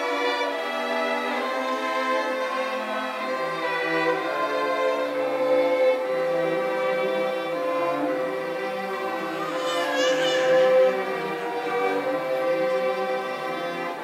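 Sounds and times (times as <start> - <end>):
string orchestra playing: 0.0 - 14.0.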